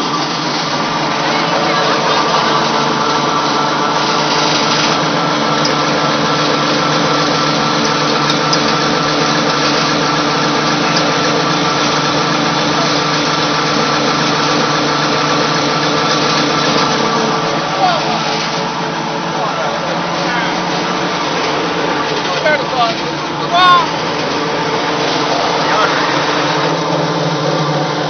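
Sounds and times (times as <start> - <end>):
pellet mill mechanical drone: 0.0 - 28.0.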